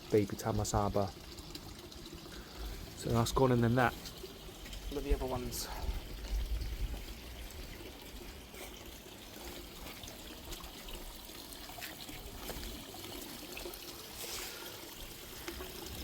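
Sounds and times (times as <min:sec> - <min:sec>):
small water splashes: 0:00.0 - 0:16.0
water trickling into a pond: 0:00.0 - 0:16.0.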